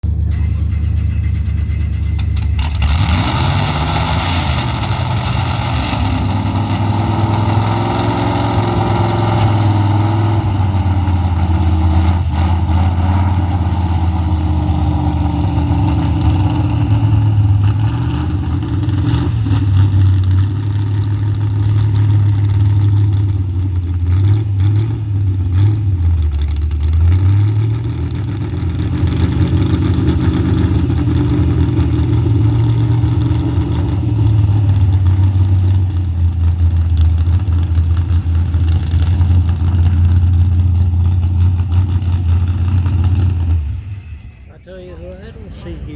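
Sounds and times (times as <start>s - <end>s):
truck engine running under load: 0.0s - 45.9s.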